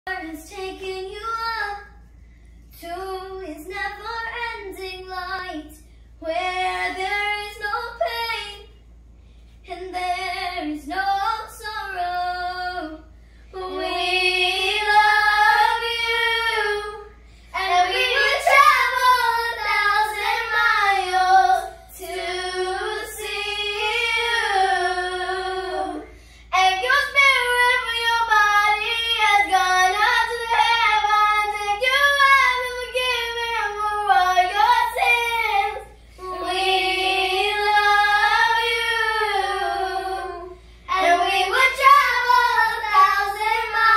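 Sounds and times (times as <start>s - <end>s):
girls singing unaccompanied: 2.8s - 8.7s, 9.7s - 43.9s.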